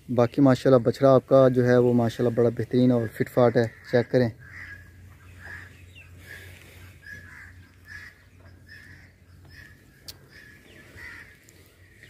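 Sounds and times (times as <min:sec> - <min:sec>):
birds calling: 0:00.0 - 0:12.0
low steady hum: 0:00.0 - 0:12.0.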